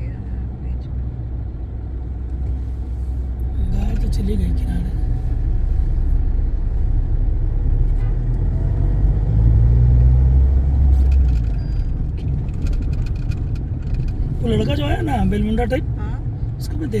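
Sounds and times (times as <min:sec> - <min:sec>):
engine rumble inside vehicle: 0:00.0 - 0:17.0
road noise: 0:00.0 - 0:17.0.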